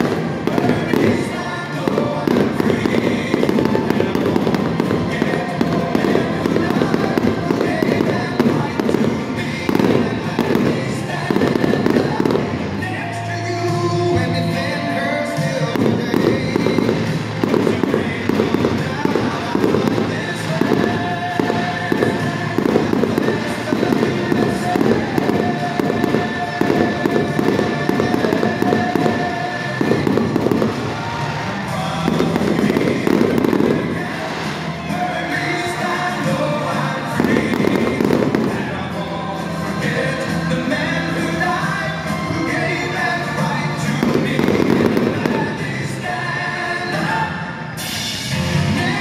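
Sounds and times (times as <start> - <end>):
fireworks crackling and banging: 0.0 - 49.0
music playing: 0.0 - 49.0.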